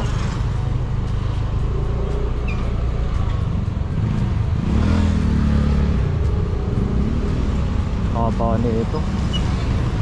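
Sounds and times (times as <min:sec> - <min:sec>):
road and traffic noise: 0:00.0 - 0:10.0
vehicle engine running: 0:00.0 - 0:10.0.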